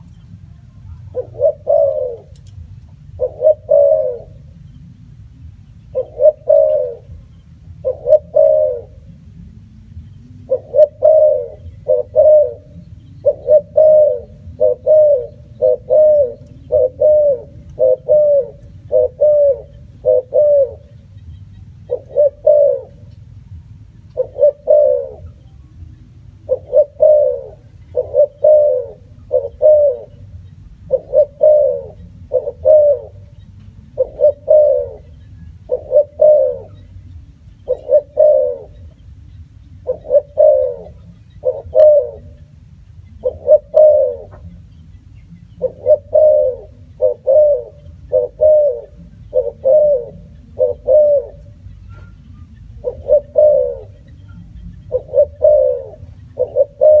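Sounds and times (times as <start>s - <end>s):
dove cooing: 0.0s - 57.0s
low steady rumble: 0.0s - 57.0s.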